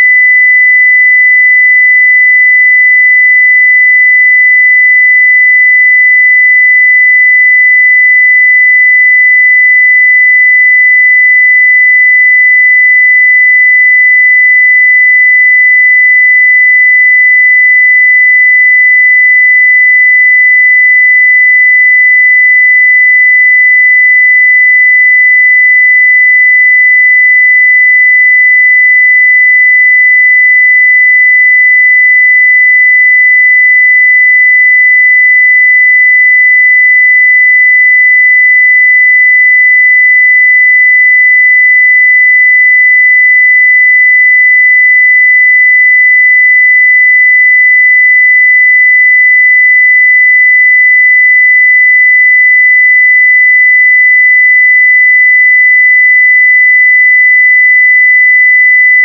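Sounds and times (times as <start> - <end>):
sine-wave test tone: 0.0 - 59.0.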